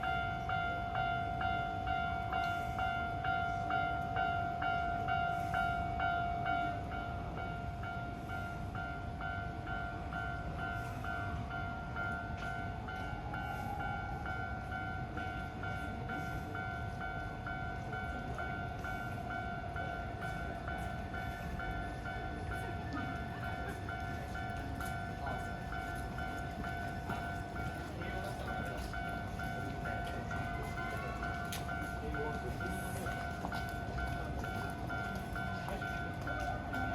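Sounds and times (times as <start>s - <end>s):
level-crossing bell clanging: 0.0s - 36.9s.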